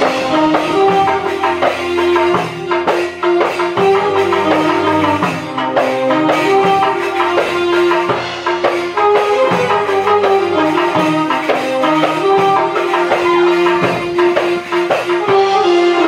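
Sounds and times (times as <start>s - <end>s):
electronic keyboard melody: 0.0s - 16.0s
hand drum beat: 0.0s - 16.0s.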